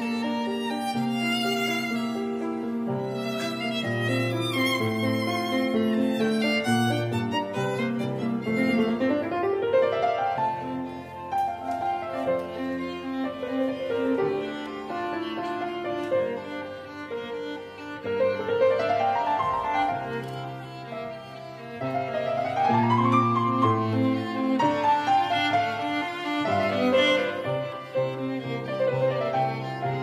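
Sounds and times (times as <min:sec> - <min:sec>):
strings and piano music: 0:00.0 - 0:30.0.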